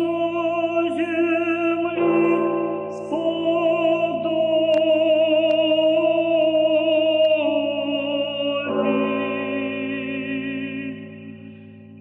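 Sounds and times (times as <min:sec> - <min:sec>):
sung melody with vibrato: 0:00.0 - 0:12.0.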